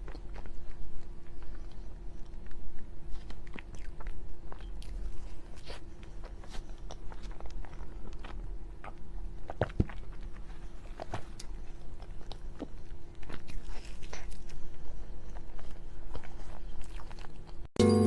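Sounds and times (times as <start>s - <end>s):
person chewing food: 0.0s - 17.7s
faint steady hum: 0.0s - 18.0s.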